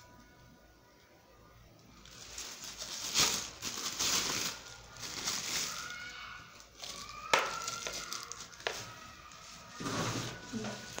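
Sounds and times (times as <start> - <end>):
plastic wrapping crinkling: 1.8 - 11.0.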